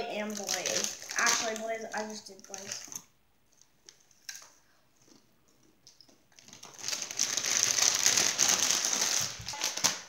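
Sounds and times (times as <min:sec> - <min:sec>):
plastic chip bag crinkling: 0:00.0 - 0:05.1, 0:05.9 - 0:10.0.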